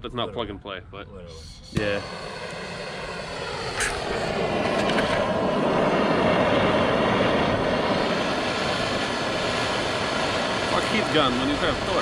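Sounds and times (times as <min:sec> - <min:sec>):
torch flame roaring: 0:01.6 - 0:12.0.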